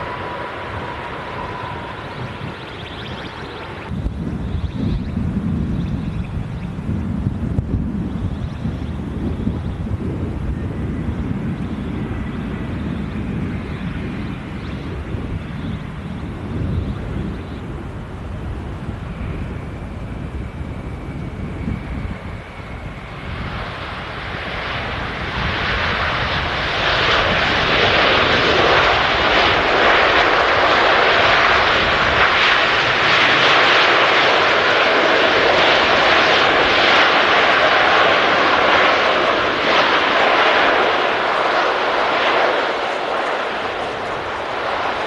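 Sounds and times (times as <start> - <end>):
jet engines roaring overhead: 0.0 - 45.0.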